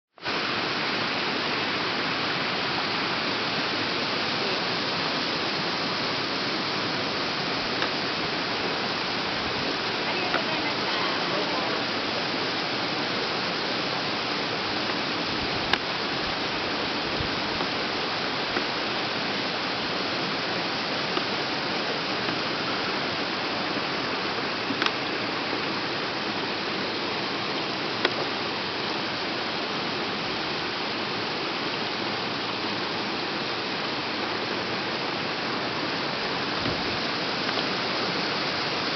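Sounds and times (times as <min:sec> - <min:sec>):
waterfall rushing and splashing: 0:00.2 - 0:38.9.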